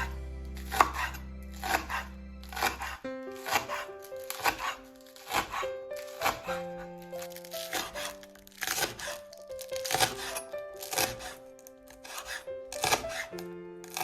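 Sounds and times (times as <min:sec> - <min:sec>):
music of slow held notes: 0:00.0 - 0:14.0.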